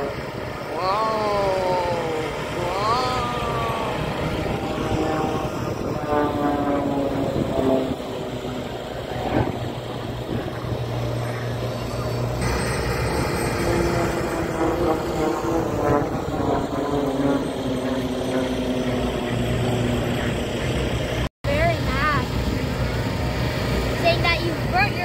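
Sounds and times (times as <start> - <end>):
aircraft engine drone: 0.0 - 25.0
low hum: 0.0 - 25.0.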